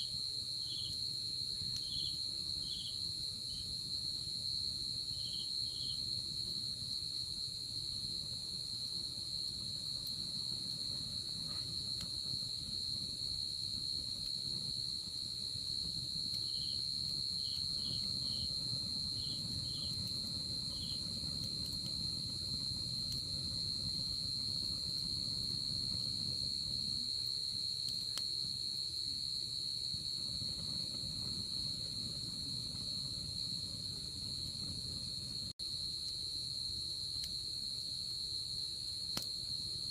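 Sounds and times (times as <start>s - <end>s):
insects trilling: 0.0s - 3.8s, 5.0s - 7.8s, 8.5s - 39.9s.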